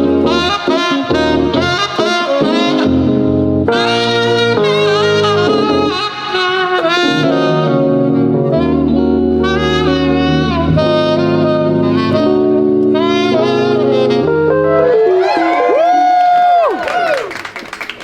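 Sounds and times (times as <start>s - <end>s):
smooth jazz saxophone melody: 0.0s - 16.2s
keyboard chords: 0.0s - 16.7s
bass: 0.0s - 17.2s.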